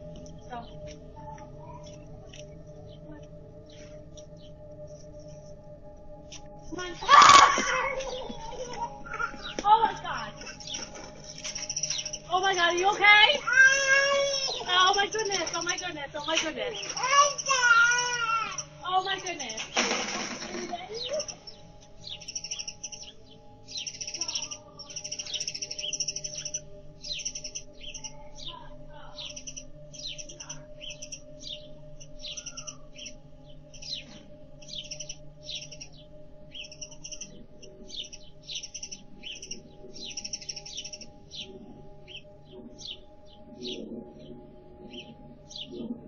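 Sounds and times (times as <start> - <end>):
small birds chirping: 0.0 - 5.4, 6.7 - 46.0
background music drone: 0.0 - 46.0.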